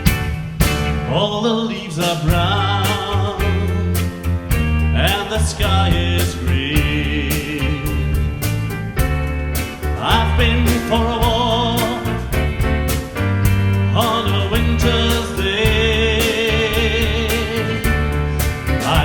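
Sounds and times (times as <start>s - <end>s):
band accompaniment with beat: 0.0s - 19.0s.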